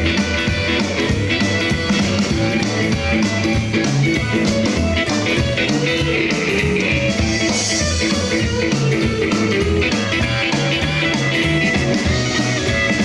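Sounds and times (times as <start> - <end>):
electric guitar: 0.0 - 13.0
steady drum beat: 0.0 - 13.0.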